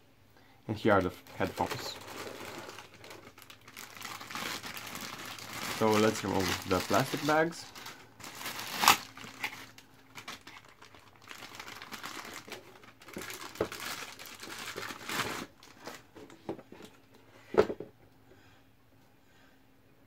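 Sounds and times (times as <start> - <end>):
plastic bags crinkling: 0.9 - 17.0.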